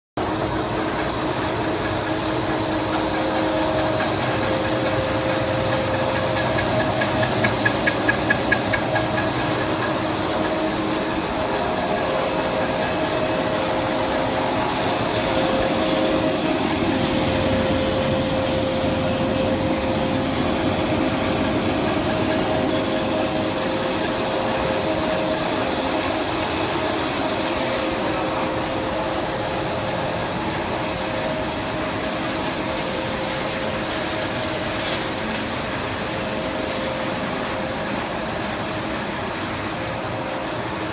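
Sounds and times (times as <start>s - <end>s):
machine drone: 0.2s - 40.9s.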